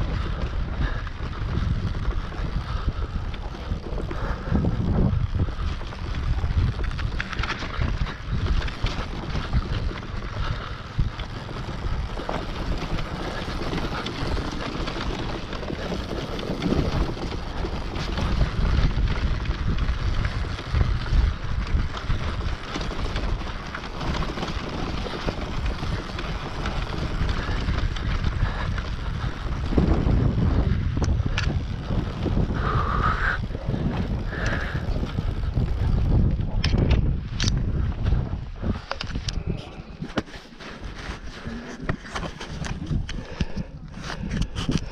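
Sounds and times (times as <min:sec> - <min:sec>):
dirt bike engine running: 0:00.0 - 0:44.9
wind buffeting microphone: 0:00.0 - 0:44.9.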